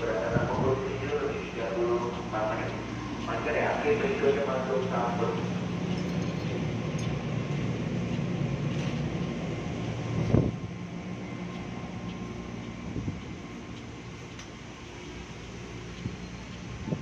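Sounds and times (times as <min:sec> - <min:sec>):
electric train humming: 0:00.0 - 0:17.0.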